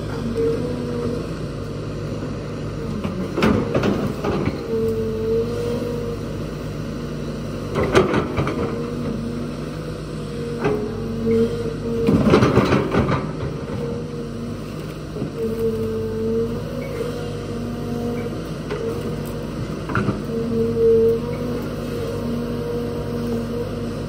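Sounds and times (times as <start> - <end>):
excavator diesel engine drone: 0.0 - 24.0.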